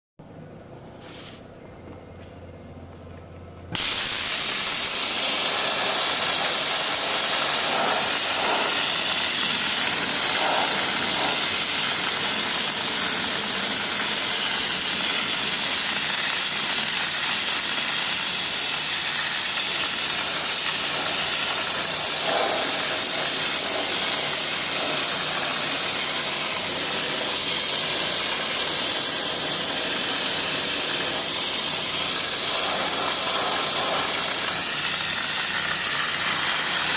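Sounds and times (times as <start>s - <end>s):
compressed air hissing: 3.8s - 36.9s.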